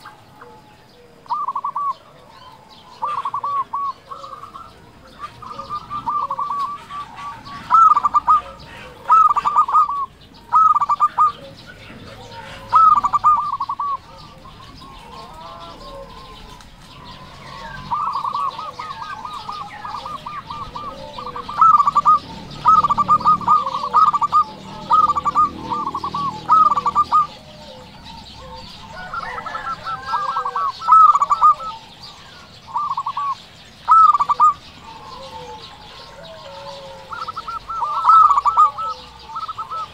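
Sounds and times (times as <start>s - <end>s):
dove cooing: 0.0s - 39.9s
small birds chirping faintly: 0.0s - 39.9s.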